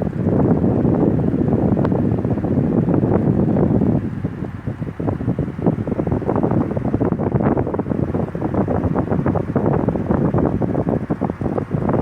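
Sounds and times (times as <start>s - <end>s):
electric fan air rushing: 0.0s - 12.0s.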